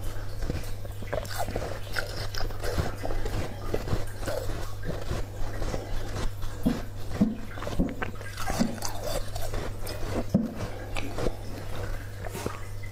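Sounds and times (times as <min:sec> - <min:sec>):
ice being chewed: 0:00.0 - 0:12.9
steady low hum: 0:00.0 - 0:12.9.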